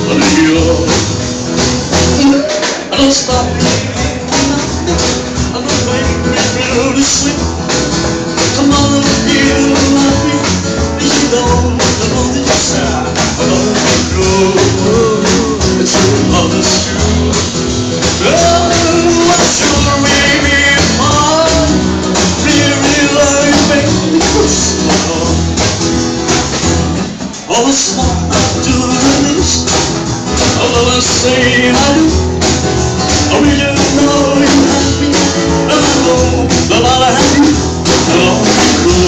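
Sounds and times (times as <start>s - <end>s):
small band playing live: 0.0s - 39.0s.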